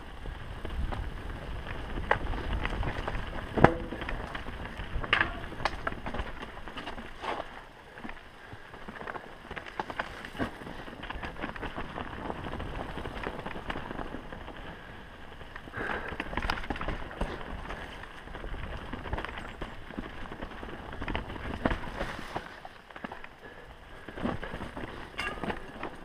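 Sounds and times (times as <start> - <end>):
wind rumble on microphone: 0.0 - 7.2, 8.4 - 22.7
bike clattering and rattling: 0.0 - 26.0
bike tyres rolling over stones: 0.0 - 26.0.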